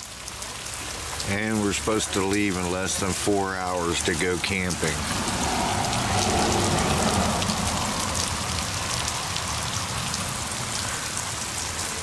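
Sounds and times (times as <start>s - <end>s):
heavy rain pouring: 0.0s - 12.0s
raindrops striking the ground: 0.0s - 12.0s.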